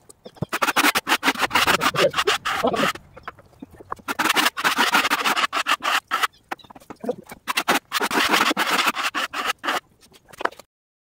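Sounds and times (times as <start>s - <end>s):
wooden slabs scraping and sliding: 0.4s - 3.0s, 3.8s - 10.7s.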